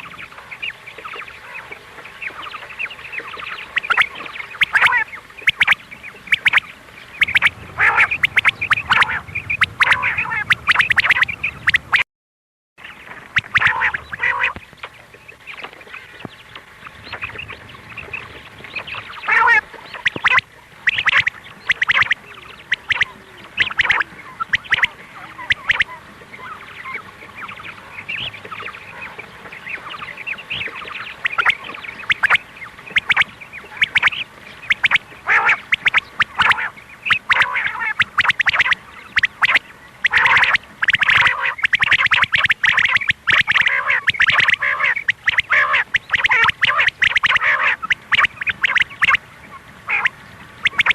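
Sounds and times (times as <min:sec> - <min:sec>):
quail calling: 0:00.0 - 0:12.0, 0:12.8 - 0:50.9.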